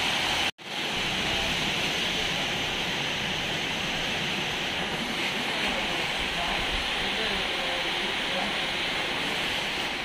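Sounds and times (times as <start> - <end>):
rain falling: 0.0 - 10.0.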